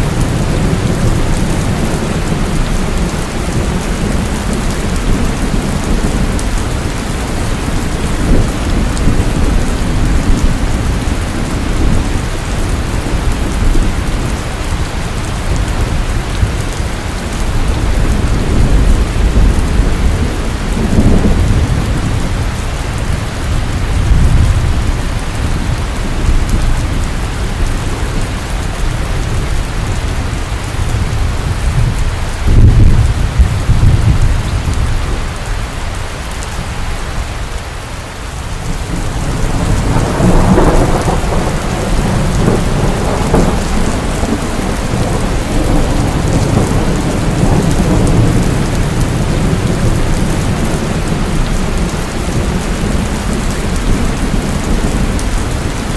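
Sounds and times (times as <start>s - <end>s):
rolling thunder: 0.0s - 35.4s, 38.4s - 55.9s
rain falling: 0.0s - 55.9s.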